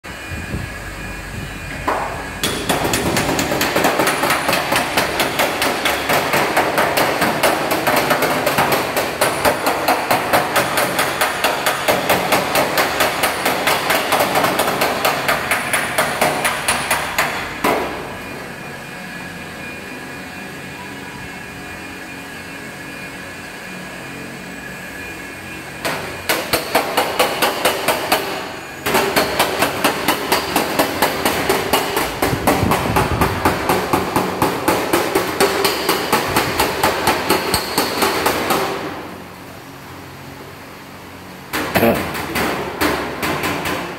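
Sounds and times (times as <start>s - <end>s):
workshop noise: 0.0s - 43.9s.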